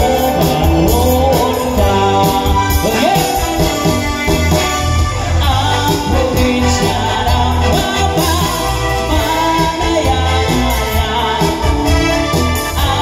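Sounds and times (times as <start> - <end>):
person singing: 0.0 - 4.6, 5.2 - 13.0
bass guitar: 0.0 - 13.0.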